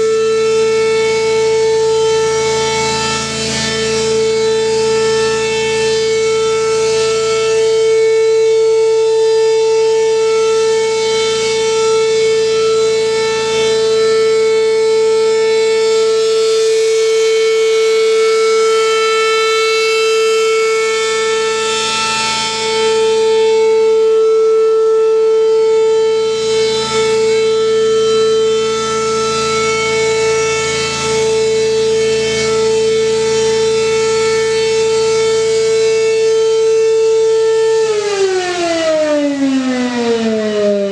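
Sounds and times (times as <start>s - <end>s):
mechanical siren steady tone: 0.0s - 40.9s.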